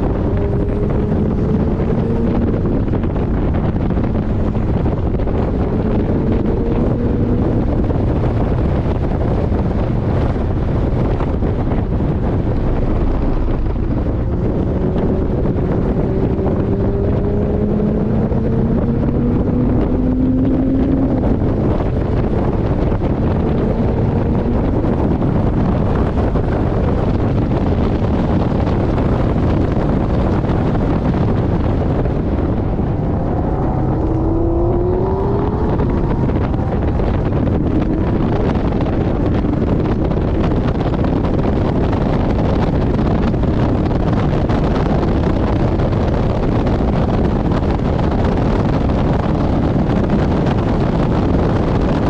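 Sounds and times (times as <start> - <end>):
car engine: 0.0 - 52.0
wind rushing on microphone: 0.0 - 52.0.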